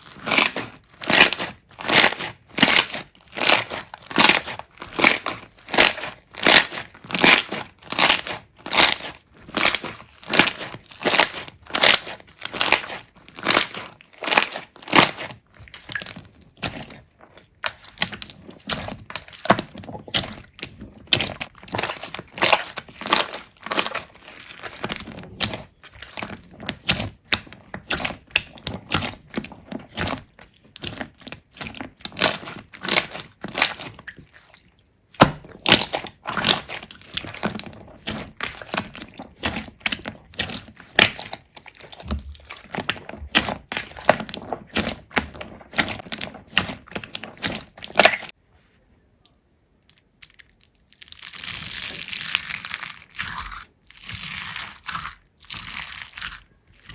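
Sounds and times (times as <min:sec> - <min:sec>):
slime crackling and popping: 0:00.0 - 0:48.4, 0:50.1 - 0:56.9.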